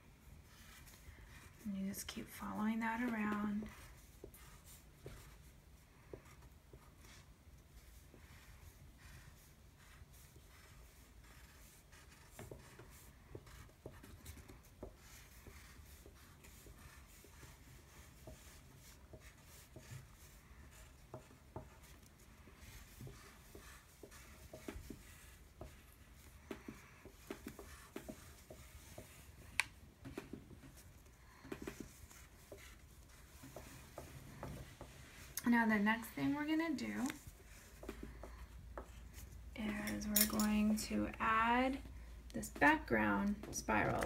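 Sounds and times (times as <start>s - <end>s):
pastel scratching on paper: 0.4s - 39.4s.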